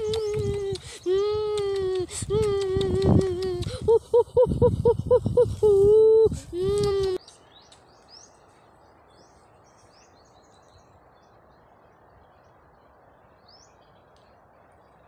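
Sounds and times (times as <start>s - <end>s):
low outdoor hiss: 0.0s - 15.0s.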